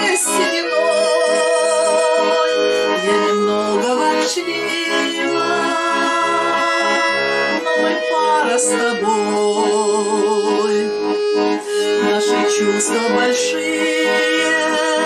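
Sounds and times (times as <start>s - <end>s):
button accordion playing: 0.0s - 15.0s.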